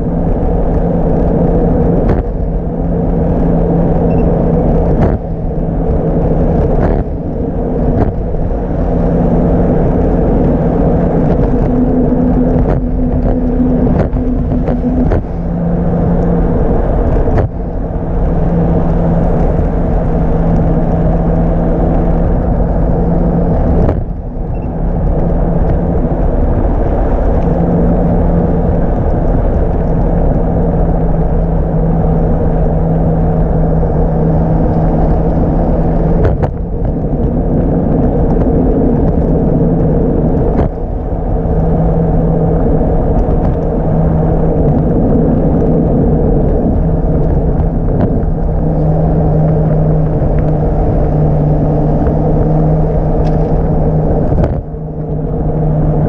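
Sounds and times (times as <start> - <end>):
low hum: 0.0 - 56.0
wind and road rumble: 0.0 - 56.0.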